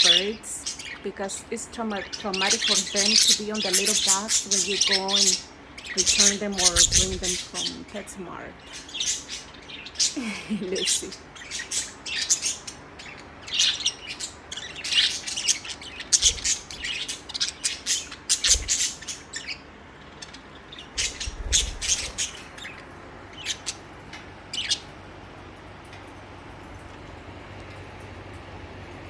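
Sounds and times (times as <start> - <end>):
budgerigars chirping and squawking: 0.0 - 25.0.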